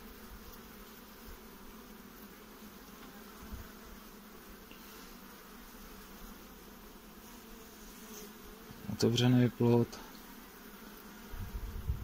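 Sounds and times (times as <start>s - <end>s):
honeybees humming: 0.0s - 12.0s.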